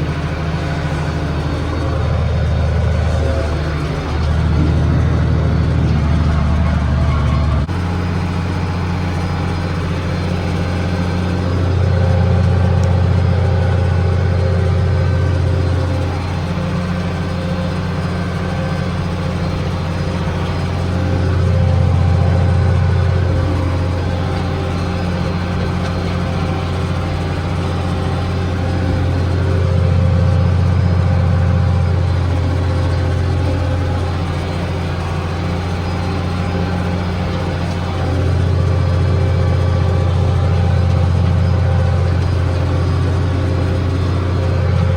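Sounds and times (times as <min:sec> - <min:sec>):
tractor engine under load: 0:00.0 - 0:44.9.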